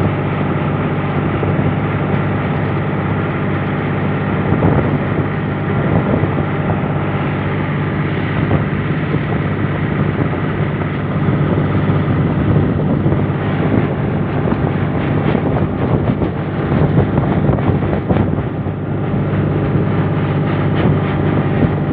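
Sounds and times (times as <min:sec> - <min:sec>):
engine clatter: 0:00.0 - 0:21.9
tractor diesel engine running: 0:00.0 - 0:21.9.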